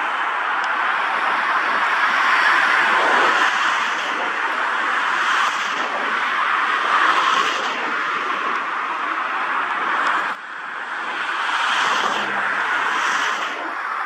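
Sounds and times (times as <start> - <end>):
jet engines hissing: 1.0 - 14.0.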